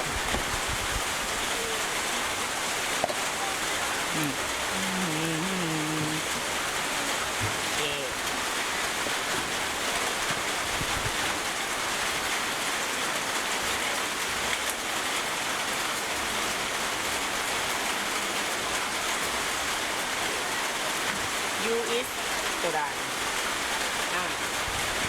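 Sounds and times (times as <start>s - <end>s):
heavy rain drumming: 0.0s - 25.0s.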